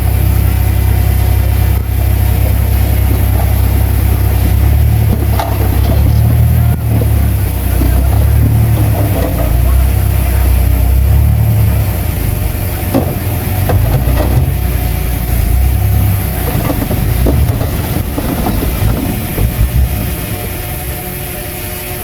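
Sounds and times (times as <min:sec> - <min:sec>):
bulldozer diesel engine rumbling: 0:00.0 - 0:22.0
metallic knocks: 0:02.2 - 0:20.4.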